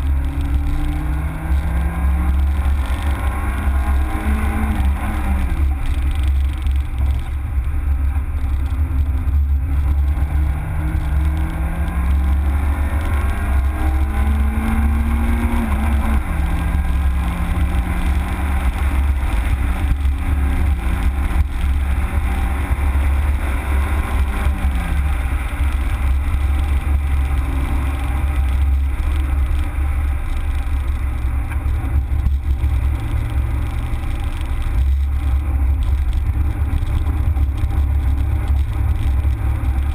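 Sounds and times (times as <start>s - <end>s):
car engine from inside cabin: 0.0s - 39.9s
low rumble: 0.0s - 39.9s.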